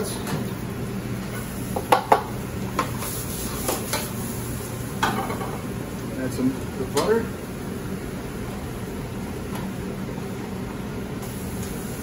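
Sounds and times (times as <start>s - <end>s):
steady low background hum: 0.0s - 12.0s.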